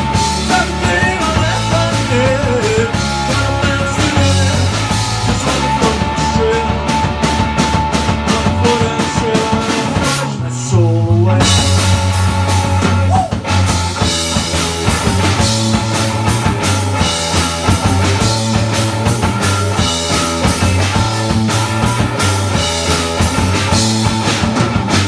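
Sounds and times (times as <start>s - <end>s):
drum kit: 0.0s - 25.0s
electric bass: 0.0s - 25.0s
electric guitar: 0.0s - 25.0s.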